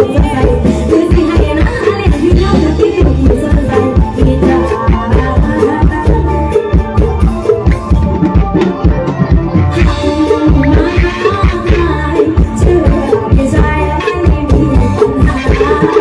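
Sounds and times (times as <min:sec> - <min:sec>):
amplified band music: 0:00.0 - 0:16.0
driving drum beat: 0:00.0 - 0:16.0
melodic instrumental line: 0:00.0 - 0:16.0.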